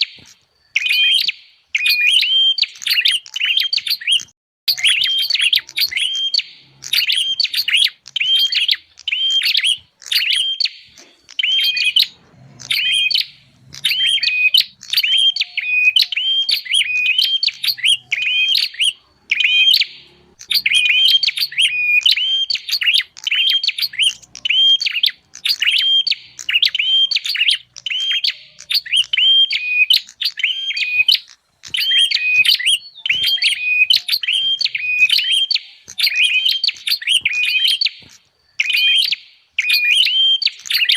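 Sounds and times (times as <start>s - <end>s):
bird sharp repeated chirps: 0.0s - 40.9s.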